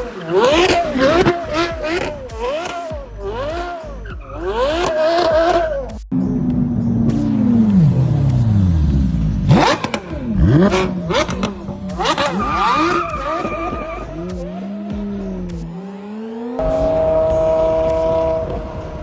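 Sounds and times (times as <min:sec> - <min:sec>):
multi-tone car horn: 0:00.0 - 0:05.9, 0:09.6 - 0:19.0
sports car engine revving: 0:00.0 - 0:19.0.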